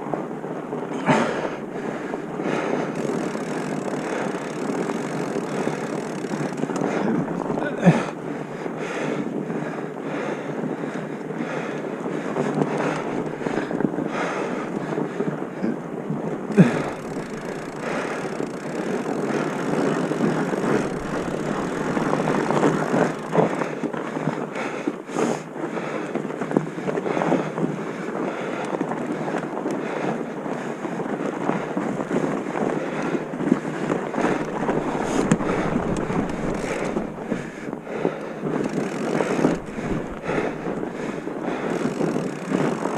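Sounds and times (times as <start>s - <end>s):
wind buffeting microphone: 0.0s - 42.9s
rolling and rattling movement: 0.1s - 10.3s, 11.4s - 24.9s, 30.6s - 42.9s.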